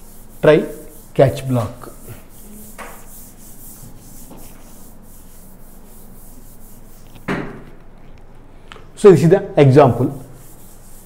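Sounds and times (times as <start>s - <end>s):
rubbing rustling noise: 0.0s - 8.5s, 9.8s - 11.0s.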